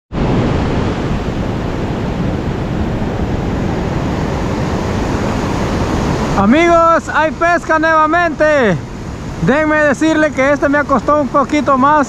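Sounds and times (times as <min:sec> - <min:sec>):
ocean surf breaking: 0:00.1 - 0:12.0.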